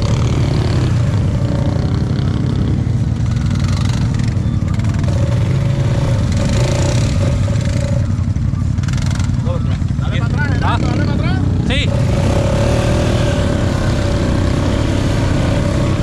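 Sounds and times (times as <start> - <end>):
atv engine rumbling: 0.0 - 16.0.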